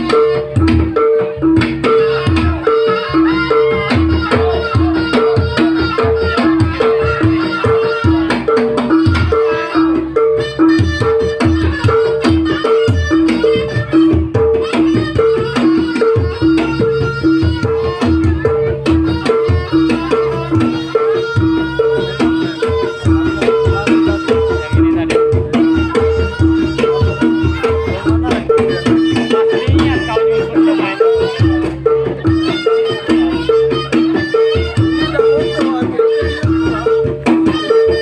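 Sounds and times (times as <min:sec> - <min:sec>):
hand drums beating: 0:00.0 - 0:38.0
reed melody: 0:00.0 - 0:38.0.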